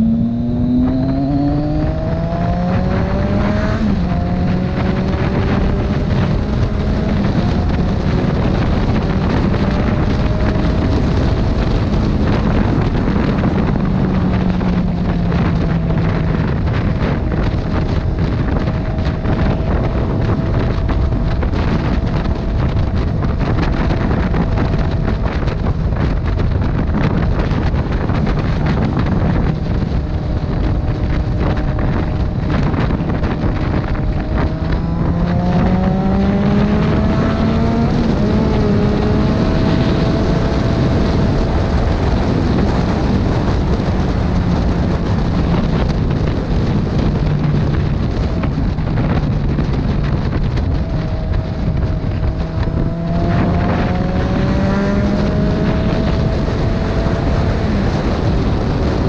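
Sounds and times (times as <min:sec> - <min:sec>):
motorcycle engine accelerating: 0:00.0 - 0:59.0
wind buffeting on microphone: 0:00.0 - 0:59.0.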